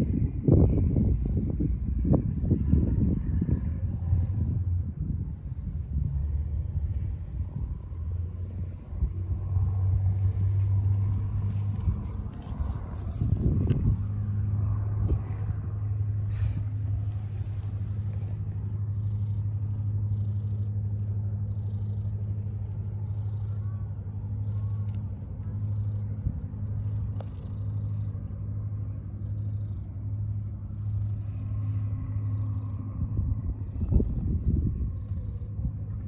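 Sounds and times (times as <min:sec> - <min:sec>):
cat purring: 0:00.0 - 0:36.0.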